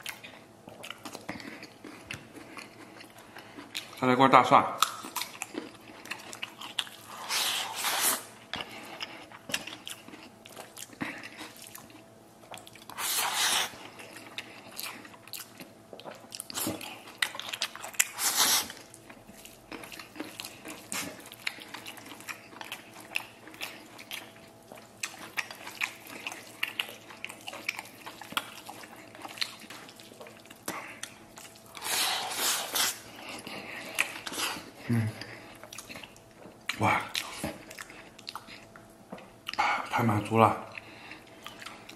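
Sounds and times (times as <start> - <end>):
person chewing food: 0.0 - 4.1, 4.7 - 41.9.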